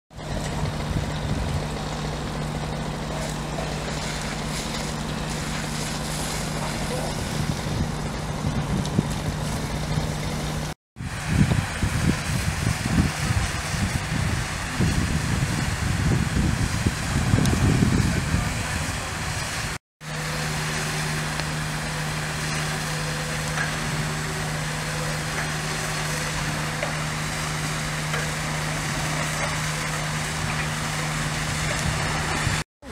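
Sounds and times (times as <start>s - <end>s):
vehicle engine running: 0.1s - 32.9s.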